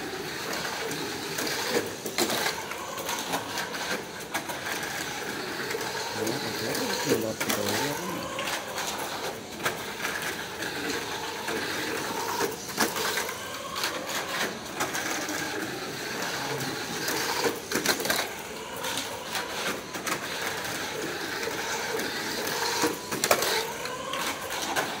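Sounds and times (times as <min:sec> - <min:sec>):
toy car clacking on track: 0:00.0 - 0:25.0
toy car motor whirring: 0:00.0 - 0:25.0.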